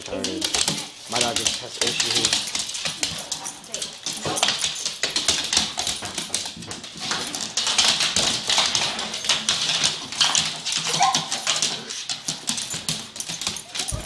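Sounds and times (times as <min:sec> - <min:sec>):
dog claws scrabbling on wooden floor: 0:00.0 - 0:14.0.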